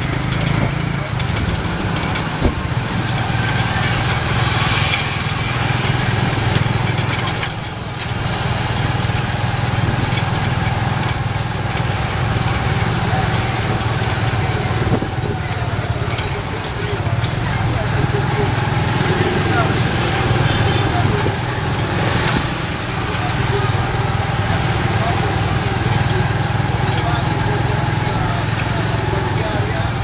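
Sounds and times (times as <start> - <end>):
road and traffic noise: 0.0 - 30.0
small motorcycle engine running: 0.0 - 30.0.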